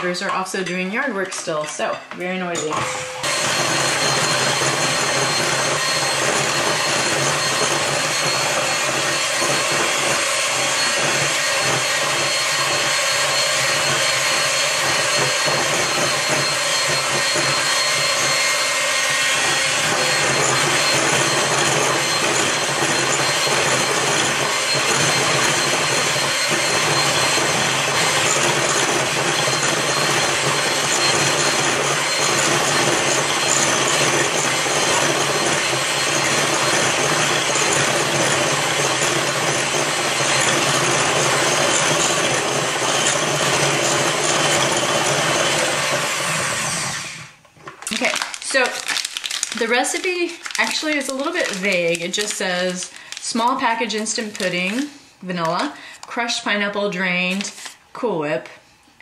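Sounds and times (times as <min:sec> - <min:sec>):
electric hand mixer whipping cream: 0:00.0 - 0:57.7.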